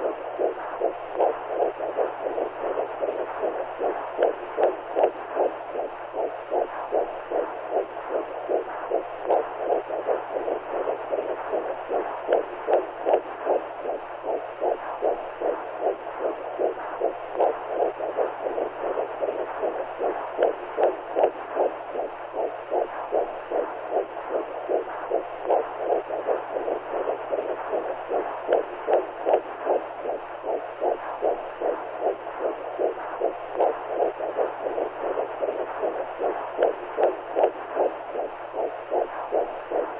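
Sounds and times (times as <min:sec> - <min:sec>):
faint low hum: 0:00.0 - 0:39.9
muffled whooshing heartbeat pulse: 0:00.0 - 0:39.9.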